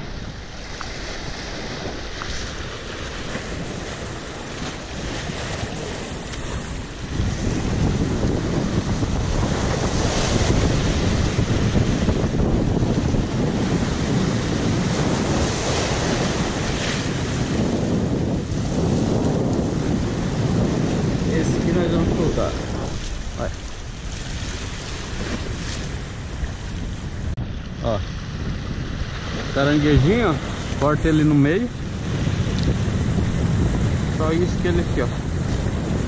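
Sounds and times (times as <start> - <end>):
surf washing: 0.0 - 36.0
wind buffeting microphone: 0.0 - 36.0.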